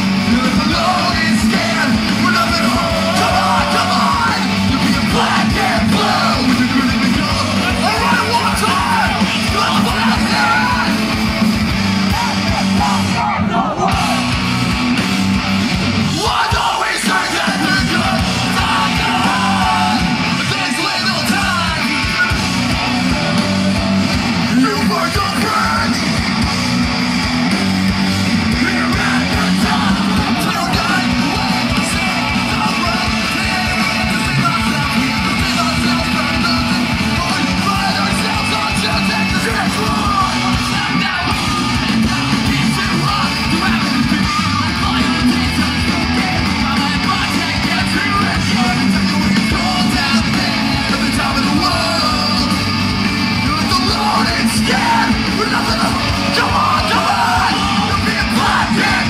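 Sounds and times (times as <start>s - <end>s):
distorted electric guitars: 0.0s - 59.0s
drums: 0.0s - 59.0s
person singing: 0.2s - 11.2s, 16.1s - 26.0s, 28.4s - 59.0s.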